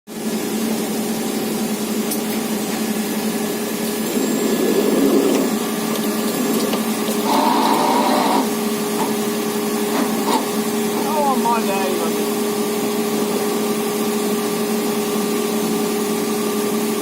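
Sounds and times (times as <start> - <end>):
sawmill machine humming: 0.1 - 17.0.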